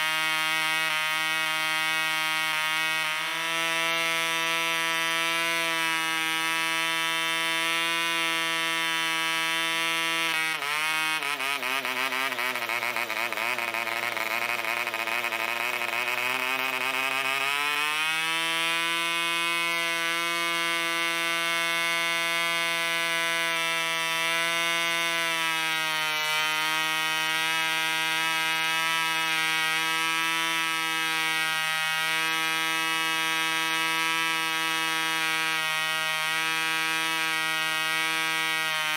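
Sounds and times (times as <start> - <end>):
model engine high buzz: 0.0 - 38.9.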